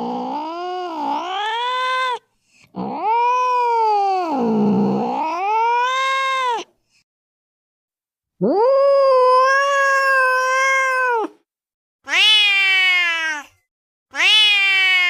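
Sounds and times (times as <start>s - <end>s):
cat yowling: 0.0s - 2.2s, 2.8s - 6.7s, 8.4s - 11.4s, 12.1s - 15.0s.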